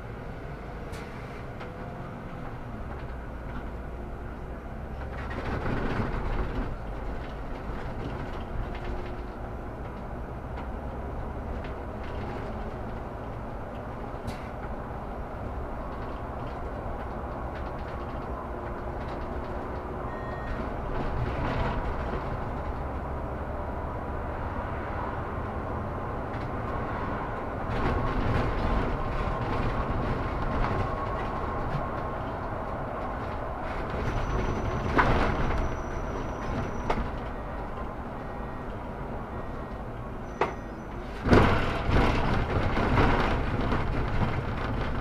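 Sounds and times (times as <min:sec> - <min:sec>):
bus drivetrain and road drone: 0:00.0 - 0:45.0.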